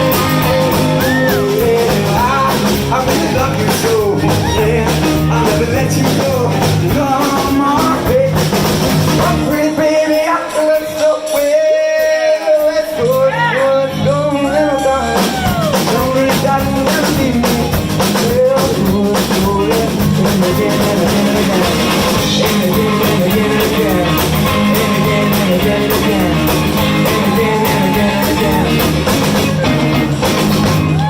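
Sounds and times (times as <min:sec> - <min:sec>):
drum kit beat: 0:00.0 - 0:13.5, 0:15.1 - 0:31.0
blues band playing: 0:00.0 - 0:31.0
guitar: 0:00.0 - 0:31.0.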